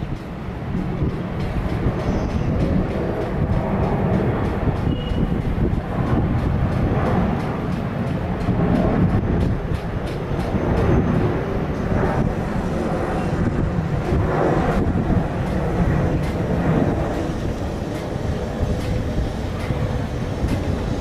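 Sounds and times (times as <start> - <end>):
distant jet engines rumbling: 0.0 - 21.0.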